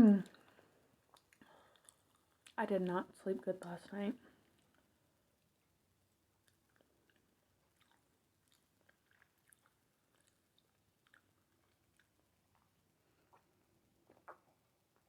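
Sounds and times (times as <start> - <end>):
person chewing food: 0.2 - 2.8, 4.4 - 15.0.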